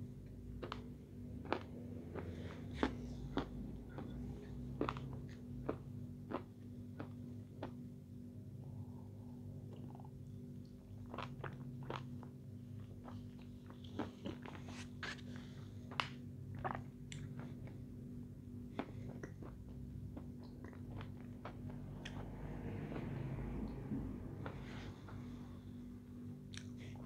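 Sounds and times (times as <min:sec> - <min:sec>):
steady low hum: 0:00.0 - 0:27.0
close chewing mouth noises: 0:00.5 - 0:07.9, 0:09.6 - 0:17.8, 0:18.7 - 0:25.4, 0:26.4 - 0:27.0.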